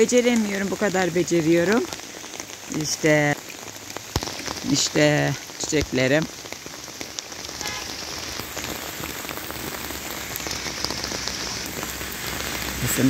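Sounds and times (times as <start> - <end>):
rain on wet paving: 0.0 - 13.0.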